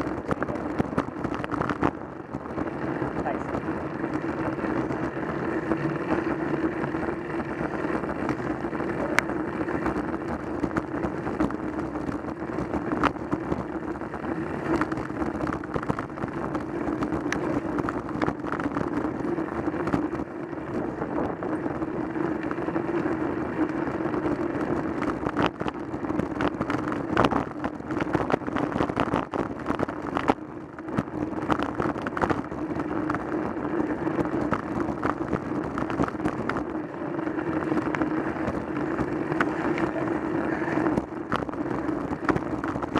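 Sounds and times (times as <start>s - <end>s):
sharp clicks and rattles: 0.0s - 42.9s
wind and road rushing: 0.0s - 42.9s.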